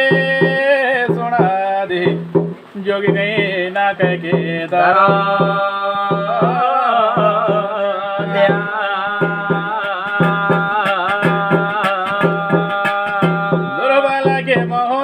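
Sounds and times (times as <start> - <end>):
hand-drum strokes: 0.0 - 15.0
held melodic folk line: 0.0 - 15.0.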